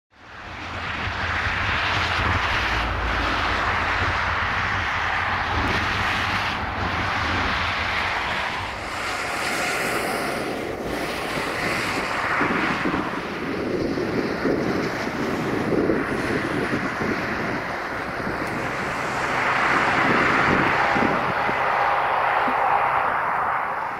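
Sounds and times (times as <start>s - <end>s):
jet engine noise: 0.2s - 23.9s
wind rumbling on microphone: 0.2s - 23.9s.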